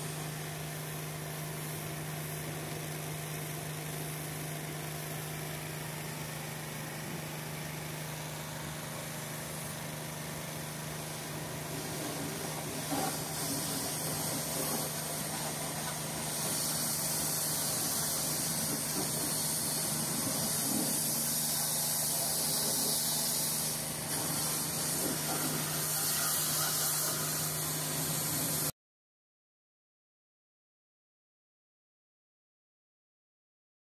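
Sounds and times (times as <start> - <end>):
pressure washer spray hissing: 0.0 - 28.7.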